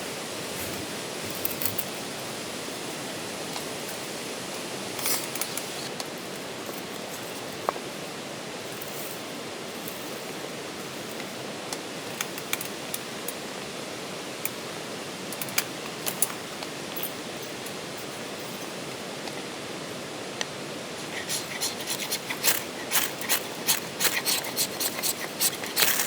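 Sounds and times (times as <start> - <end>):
campfire hissing: 0.0 - 26.0.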